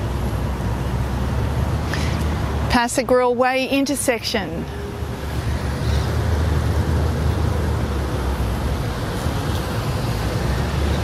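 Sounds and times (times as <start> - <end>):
vehicle road noise: 0.0 - 11.0.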